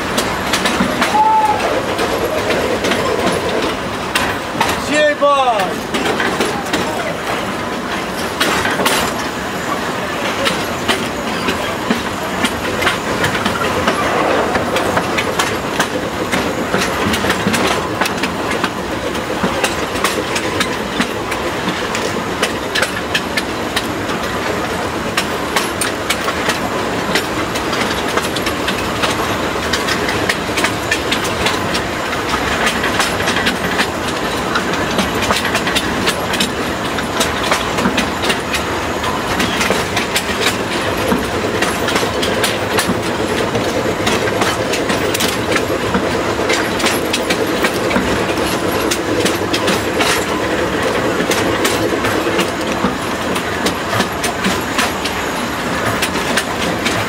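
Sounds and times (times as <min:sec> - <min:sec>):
train rattling along track: 0:00.0 - 0:57.0
train wheels clacking over rail joints: 0:00.0 - 0:57.0.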